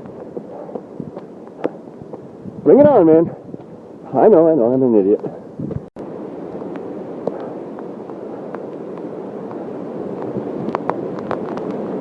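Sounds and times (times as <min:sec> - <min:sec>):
crackling microphone with sharp ticks: 0:00.0 - 0:02.6, 0:03.5 - 0:04.1, 0:05.1 - 0:12.0
wind and rain on microphone: 0:00.0 - 0:12.0.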